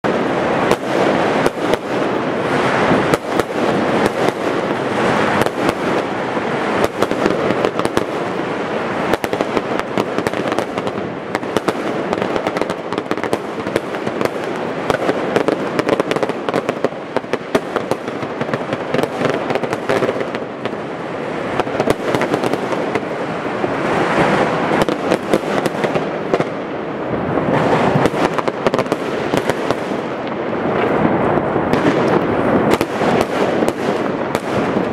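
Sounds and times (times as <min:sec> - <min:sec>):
firecrackers cracking and banging: 0:00.0 - 0:34.9
fireworks crackle and rumble: 0:00.0 - 0:34.9.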